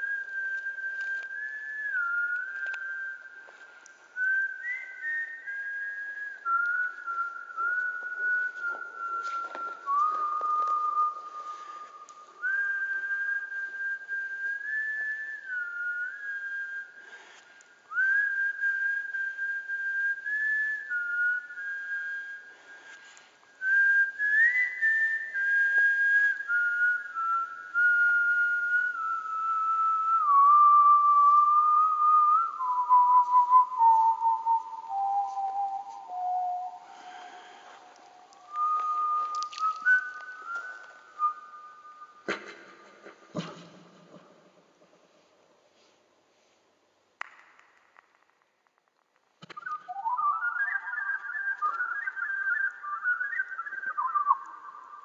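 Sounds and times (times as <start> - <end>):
person whistling a slow tune: 0.0 - 44.2, 49.4 - 55.0.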